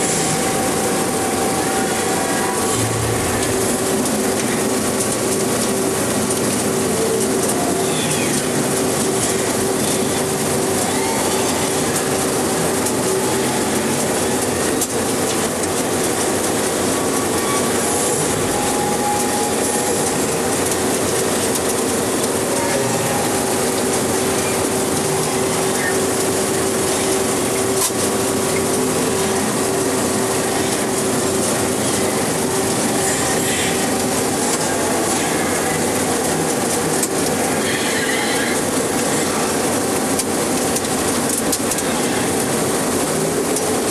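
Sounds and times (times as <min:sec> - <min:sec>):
film projector clatter and whir: 0:00.0 - 0:43.9
projector hum: 0:00.0 - 0:43.9.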